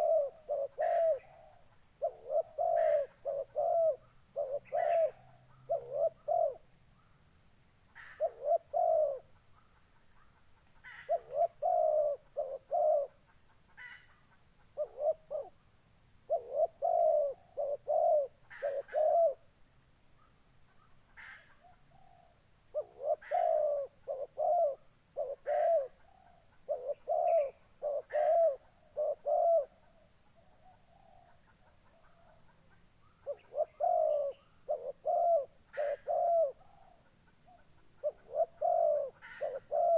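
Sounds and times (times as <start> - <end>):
dove cooing: 0.0 - 6.7, 8.0 - 9.4, 10.2 - 15.6, 16.2 - 19.5, 21.2 - 39.9.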